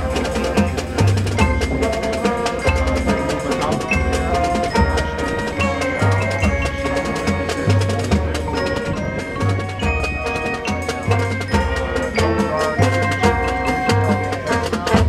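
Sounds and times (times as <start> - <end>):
drums: 0.0 - 15.0
low bass line: 0.0 - 15.0
marimbas: 0.0 - 15.0
wind instruments holding tones: 0.0 - 15.0.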